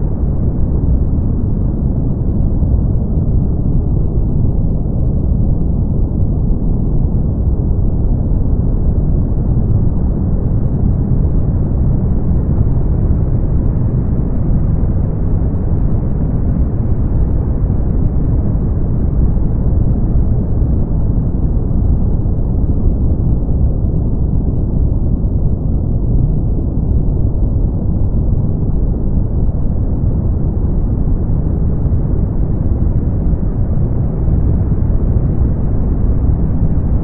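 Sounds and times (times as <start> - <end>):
deep rushing brown noise: 0.0 - 37.0.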